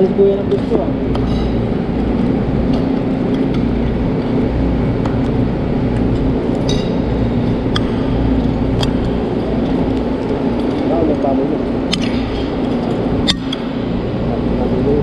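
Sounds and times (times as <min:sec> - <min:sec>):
ship machinery hum: 0:00.0 - 0:15.0.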